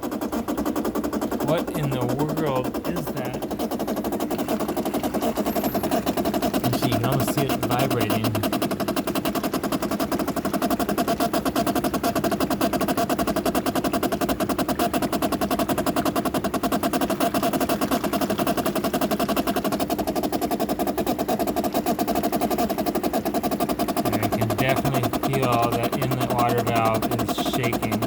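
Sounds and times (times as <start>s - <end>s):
water valve buzzing: 0.0s - 28.0s.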